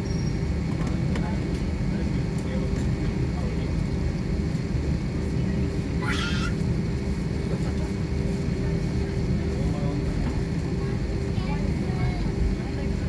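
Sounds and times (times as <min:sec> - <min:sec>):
airliner engine rumble in cabin: 0:00.0 - 0:13.0.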